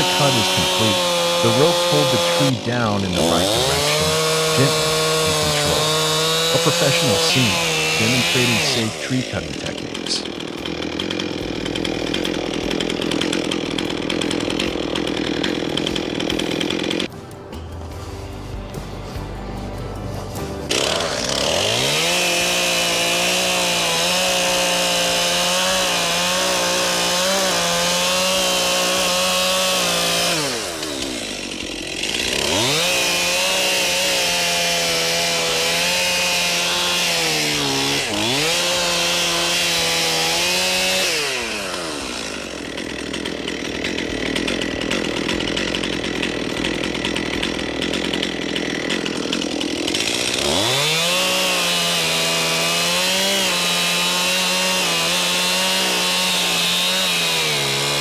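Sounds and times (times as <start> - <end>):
chainsaw running at high revs: 0.0 - 17.1, 20.4 - 58.0.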